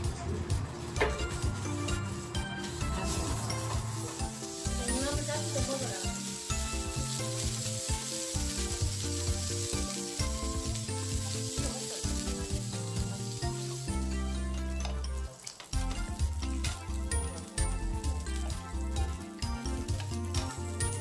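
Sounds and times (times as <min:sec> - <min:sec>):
background music: 0:00.0 - 0:21.0
meat sizzling on grill pan: 0:00.8 - 0:21.0.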